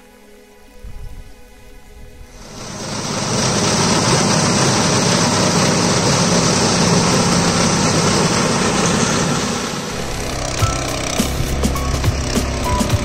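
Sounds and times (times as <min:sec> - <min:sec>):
rotary tiller churning soil: 0:02.4 - 0:13.0
tractor diesel engine running: 0:02.4 - 0:13.0.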